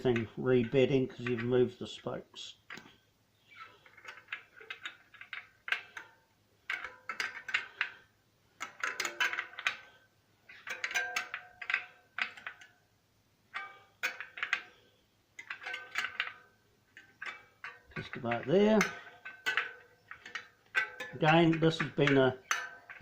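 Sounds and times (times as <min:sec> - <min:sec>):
bicycle spokes clicking and pinging: 0:02.7 - 0:12.9, 0:13.5 - 0:23.0.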